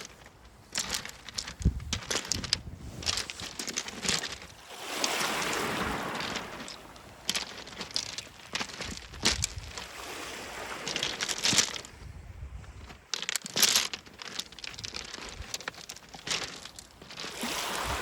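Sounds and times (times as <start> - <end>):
pebbles crunching and clattering: 0.0 - 12.0, 12.8 - 17.9.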